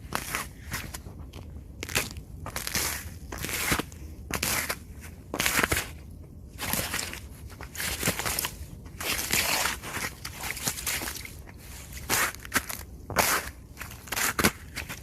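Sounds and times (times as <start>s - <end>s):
scratching icy snow: 1.8s - 5.9s, 6.6s - 15.0s.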